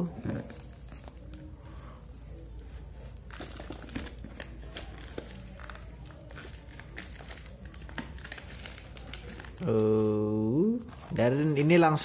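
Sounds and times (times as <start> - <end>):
plastic wrapping crinkling: 0.1 - 10.1.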